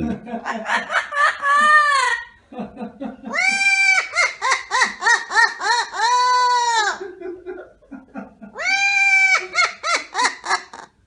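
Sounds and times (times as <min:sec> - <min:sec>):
parrot laughing: 0:00.0 - 0:02.4, 0:03.2 - 0:11.0.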